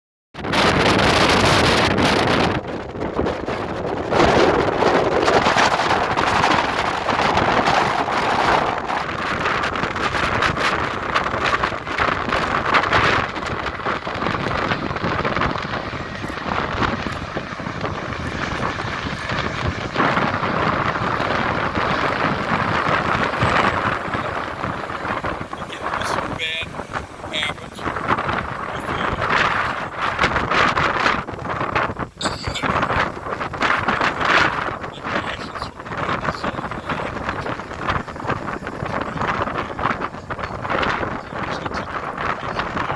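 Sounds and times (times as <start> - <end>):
jet engines roaring: 0.4 - 42.9
wind on microphone: 0.4 - 42.9.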